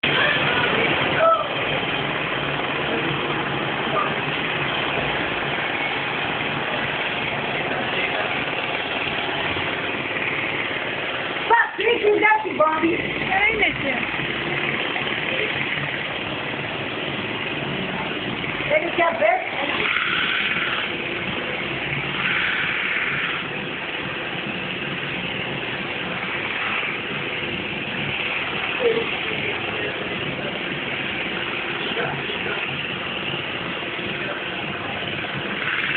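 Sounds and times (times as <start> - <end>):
steady mechanical running noise: 0.0 - 35.9.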